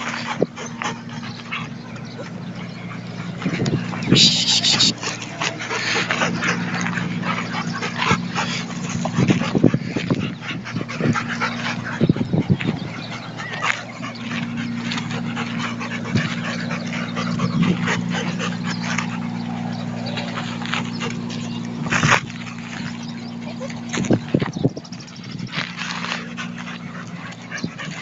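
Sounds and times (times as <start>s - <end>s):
dogs panting: 0.0s - 28.0s
dogs whimpering and yipping: 0.0s - 28.0s
steady low hum: 0.0s - 28.0s.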